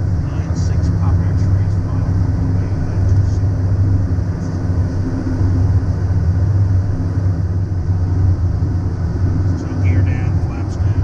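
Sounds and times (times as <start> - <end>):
faint steady hum: 0.0 - 11.0
jet engine and airflow rumble: 0.0 - 11.0.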